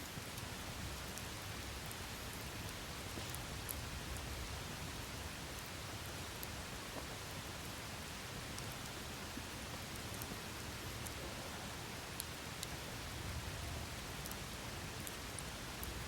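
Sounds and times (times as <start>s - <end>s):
campfire burning with a hiss: 0.0s - 16.0s.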